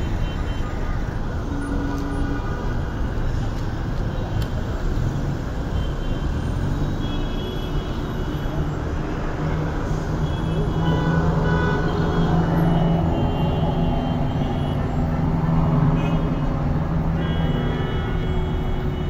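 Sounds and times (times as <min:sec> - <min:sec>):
cars passing: 0:00.0 - 0:19.0.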